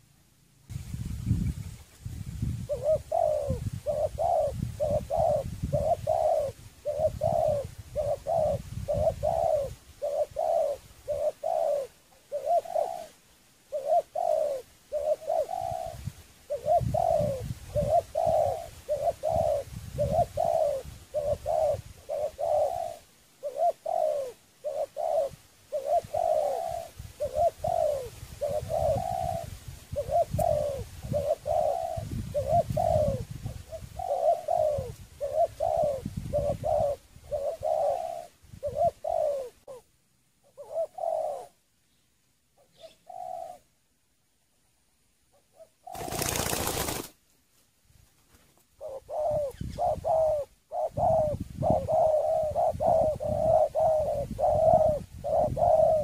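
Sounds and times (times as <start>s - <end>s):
dove cooing: 2.4s - 41.7s, 42.6s - 43.8s, 45.4s - 47.1s, 48.7s - 56.0s.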